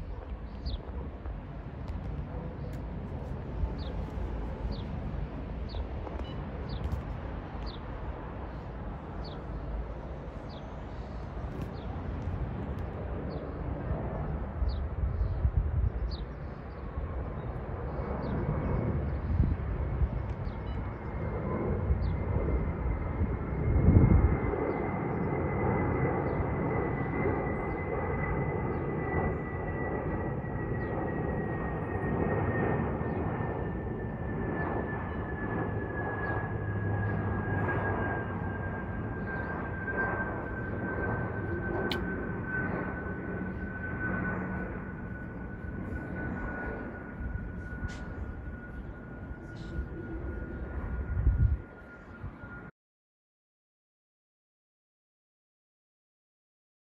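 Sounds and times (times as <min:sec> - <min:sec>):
jet airliner passing overhead: 0:00.0 - 0:52.7.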